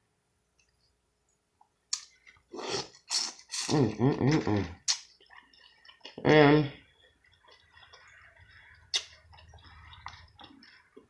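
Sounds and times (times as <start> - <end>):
wet eating mouth sounds: 1.9 - 11.0.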